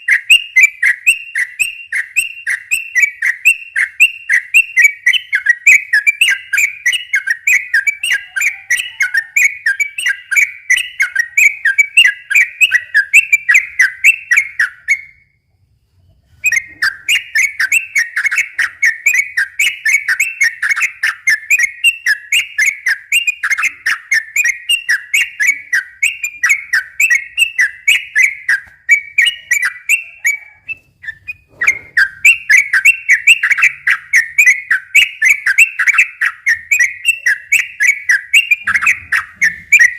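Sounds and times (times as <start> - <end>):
bird singing whistled notes: 0.0 - 15.4, 16.3 - 39.9.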